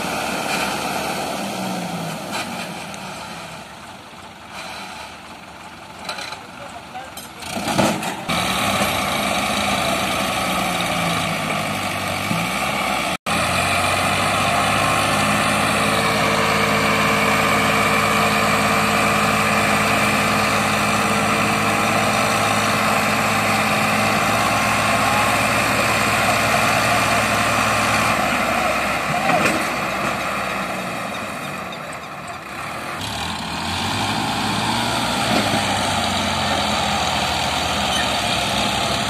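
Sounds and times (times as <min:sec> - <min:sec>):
diesel tractor engines running hard: 0:00.0 - 0:39.0.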